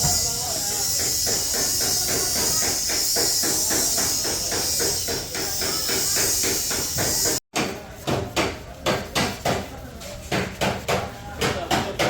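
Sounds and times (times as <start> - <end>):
hammering on sheet metal: 0.0 - 12.0.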